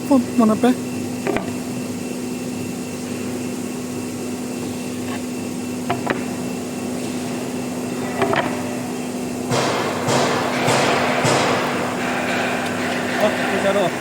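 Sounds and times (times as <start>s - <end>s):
cnc machine humming and hissing: 0.0s - 14.0s.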